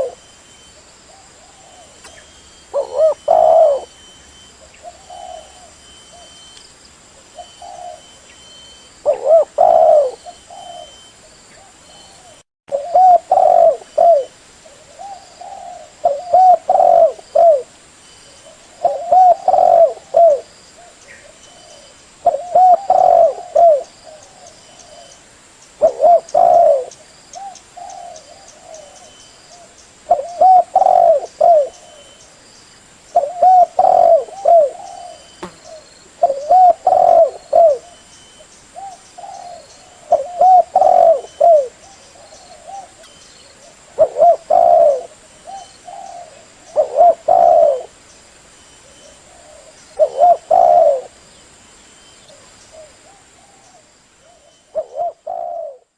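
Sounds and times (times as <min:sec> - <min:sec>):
dove cooing: 0:00.0 - 0:00.3, 0:01.1 - 0:06.4, 0:07.2 - 0:08.4, 0:09.0 - 0:17.7, 0:18.4 - 0:25.2, 0:25.8 - 0:32.2, 0:33.2 - 0:38.1, 0:38.8 - 0:48.0, 0:48.8 - 0:51.2, 0:52.3 - 0:55.9.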